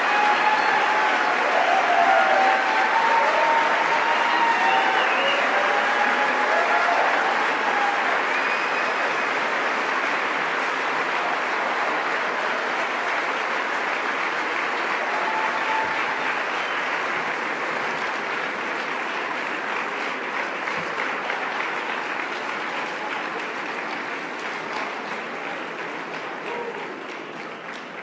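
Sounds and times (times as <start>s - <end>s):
large audience applauding: 0.0s - 28.0s.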